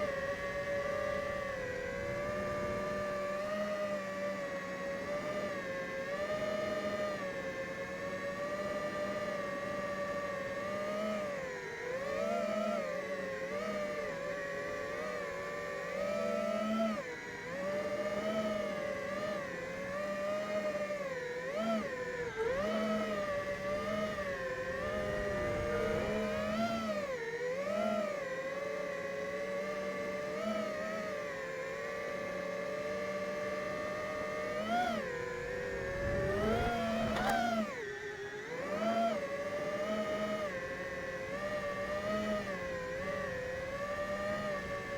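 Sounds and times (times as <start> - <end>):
quadcopter motors whining: 0.0 - 44.9.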